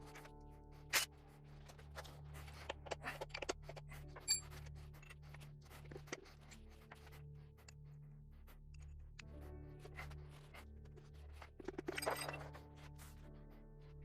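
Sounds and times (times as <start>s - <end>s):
low droning music: 0.0s - 14.0s.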